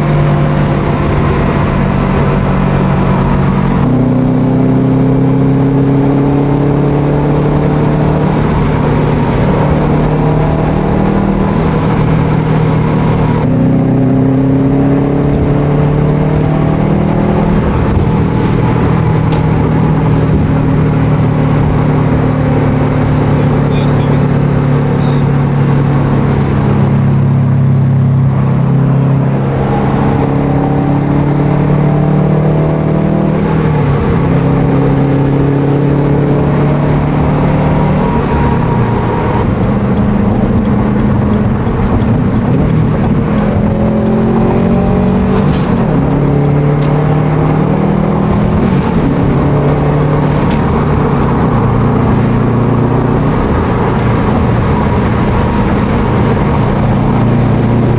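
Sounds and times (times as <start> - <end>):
car engine accelerating hard: 0.0 - 57.9.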